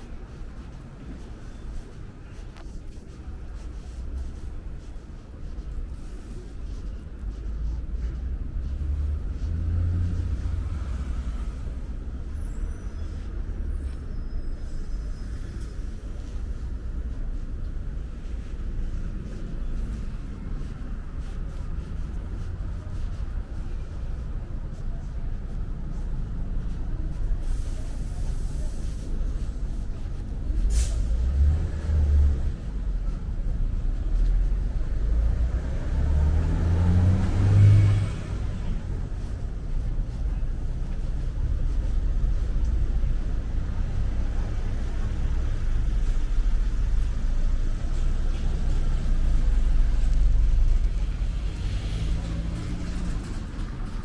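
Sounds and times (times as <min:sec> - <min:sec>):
vehicles passing with rumbling engines: 0:00.0 - 0:54.0.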